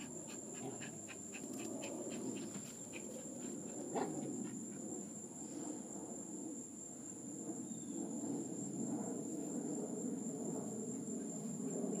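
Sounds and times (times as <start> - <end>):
insect chorus drone: 0.0 - 12.0
low steady outdoor noise: 0.0 - 12.0.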